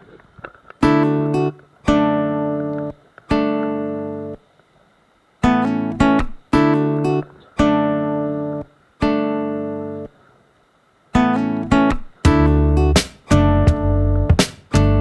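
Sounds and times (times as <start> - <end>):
acoustic guitar plucked chords: 0.8 - 4.4, 5.4 - 10.1, 11.1 - 15.0.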